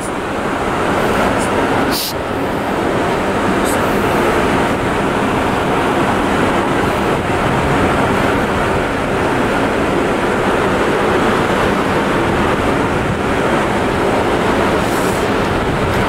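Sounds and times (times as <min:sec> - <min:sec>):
machinery rushing noise: 0:00.0 - 0:16.0.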